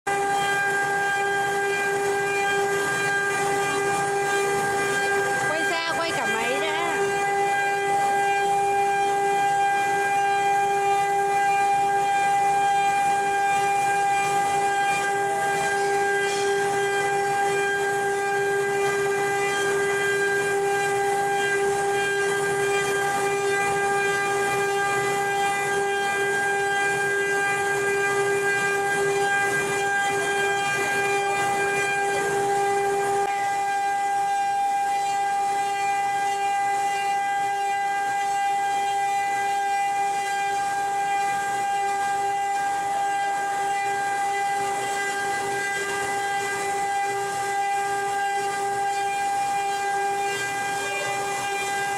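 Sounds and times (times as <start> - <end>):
router spindle whining: 0.1 - 51.9.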